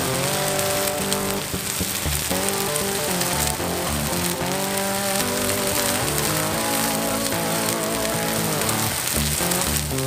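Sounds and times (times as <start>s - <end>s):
music playing a melody: 0.0s - 10.0s.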